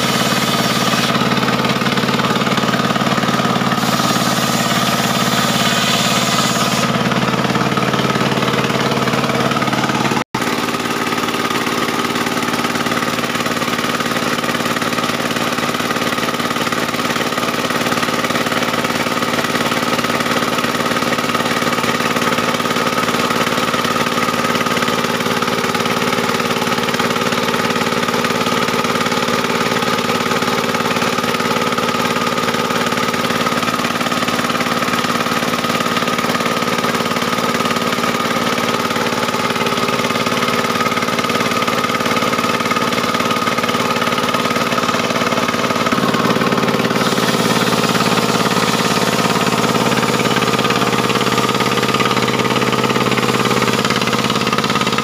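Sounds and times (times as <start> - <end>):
sawmill engine running with whine: 0.0 - 55.0.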